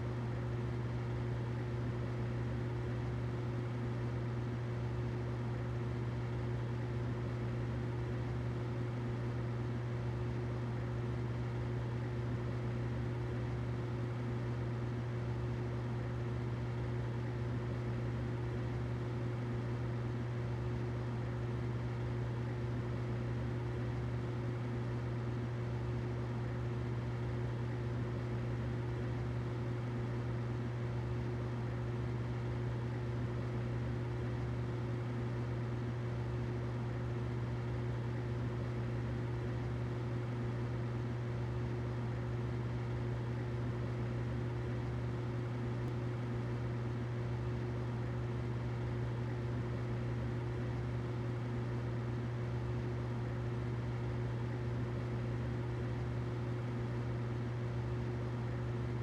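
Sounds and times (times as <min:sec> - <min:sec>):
humidifier humming: 0:00.0 - 0:59.0.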